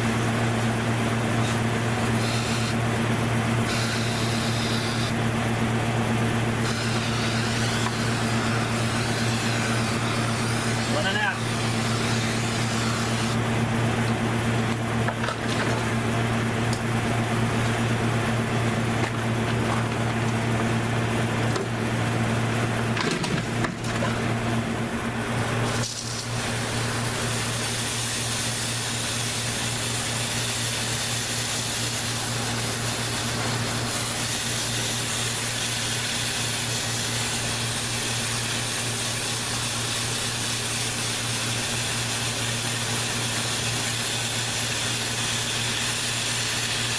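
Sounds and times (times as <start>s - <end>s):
motor humming: 0.0s - 46.9s.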